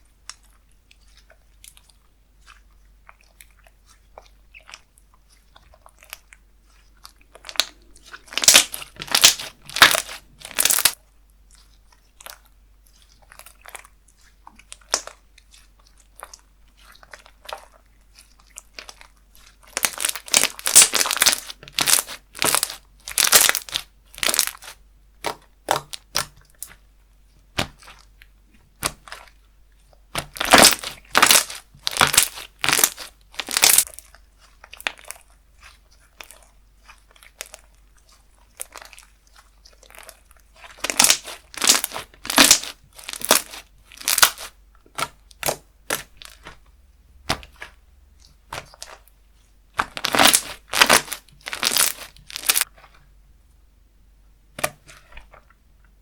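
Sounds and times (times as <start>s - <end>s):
slime crackling and popping: 3.1s - 11.0s, 13.1s - 26.8s, 27.5s - 29.4s, 30.1s - 49.1s, 49.7s - 53.0s.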